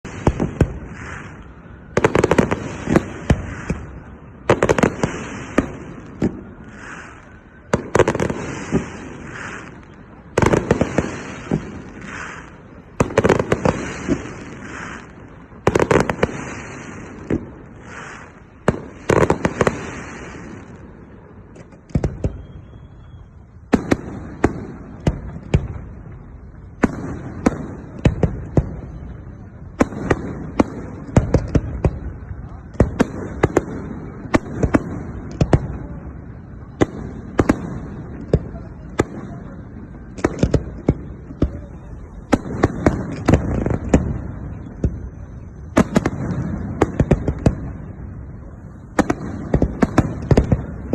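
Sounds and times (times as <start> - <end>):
fireworks bangs and pops: 0.0 - 50.9.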